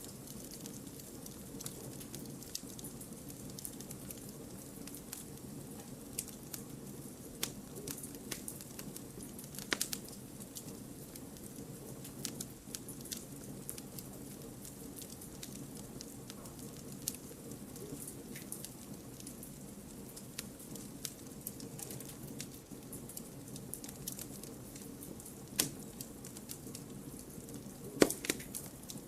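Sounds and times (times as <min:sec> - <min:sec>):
burning logs crackling and popping: 0:00.0 - 0:29.0
campfire flame rushing: 0:00.0 - 0:29.0.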